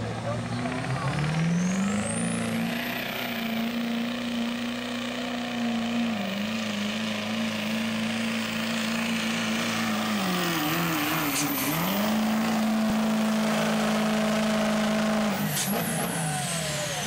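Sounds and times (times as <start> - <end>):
diesel truck engine at high revs: 0.0 - 17.0.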